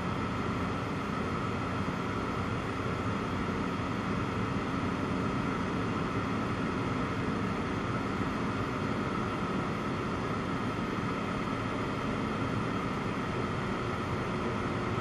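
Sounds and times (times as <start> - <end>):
light aircraft engine and propeller drone: 0.0 - 15.0.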